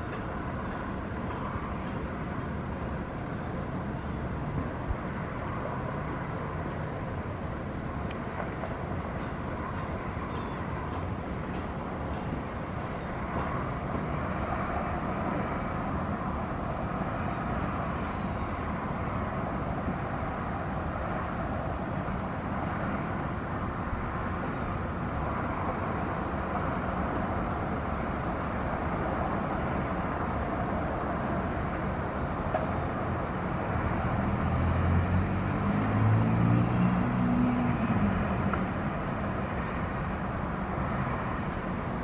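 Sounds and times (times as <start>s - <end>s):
distant traffic rumble: 0.0s - 42.0s
engine low drone: 0.0s - 42.0s.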